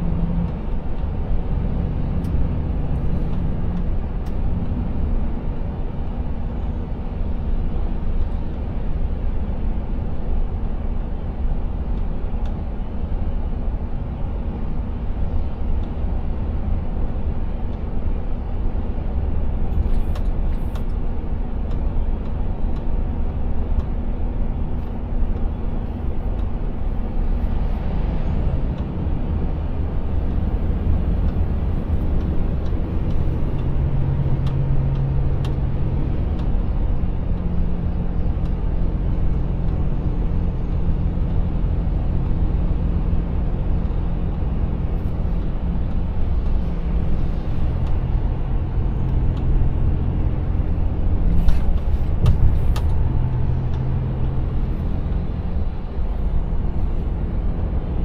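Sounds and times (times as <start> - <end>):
truck engine drone: 0.0 - 58.0.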